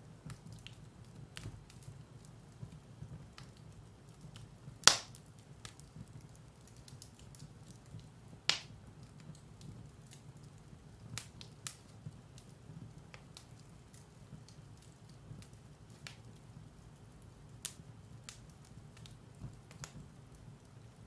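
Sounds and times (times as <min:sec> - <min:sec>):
fire rumbling: 0:00.0 - 0:21.0
firewood crackling and popping: 0:00.0 - 0:21.0.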